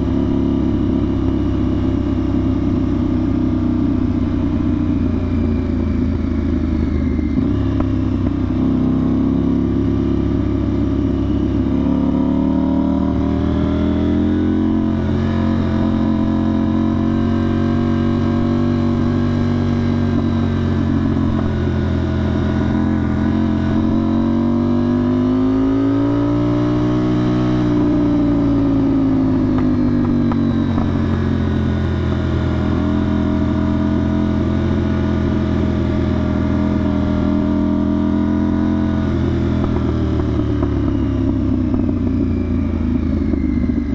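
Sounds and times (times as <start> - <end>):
motorcycle engine while riding: 0.0 - 43.9.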